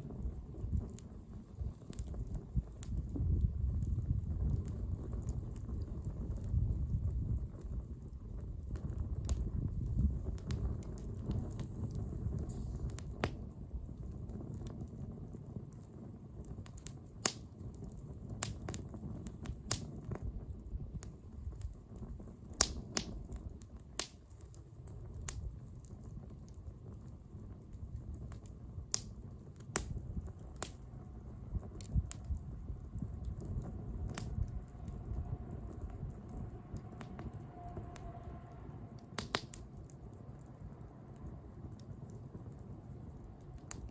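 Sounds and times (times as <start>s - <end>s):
low rumble of flames: 0.0s - 43.9s
wood crackling and popping: 0.0s - 43.9s.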